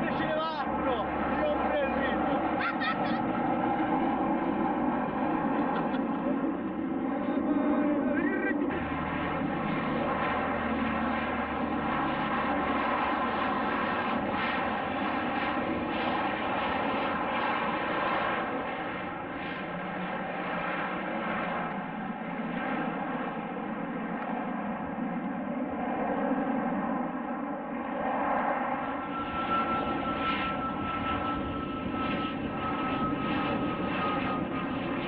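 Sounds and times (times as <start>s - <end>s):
aircraft engines droning: 0.0s - 35.0s.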